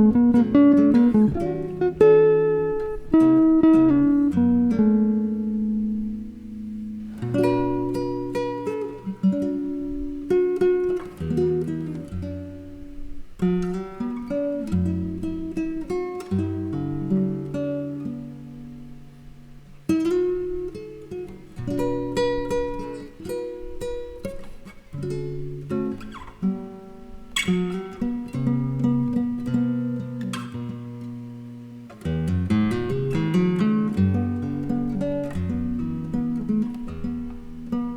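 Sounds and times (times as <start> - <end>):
electric guitar: 0.0 - 31.2
nylon-string guitar: 0.0 - 37.9.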